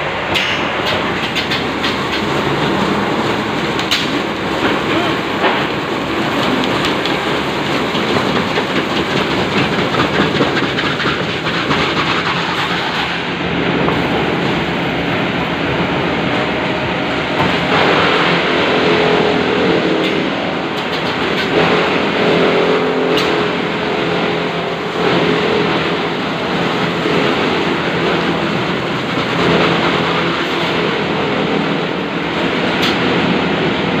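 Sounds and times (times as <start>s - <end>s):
debarking machine running: 0.0s - 34.0s.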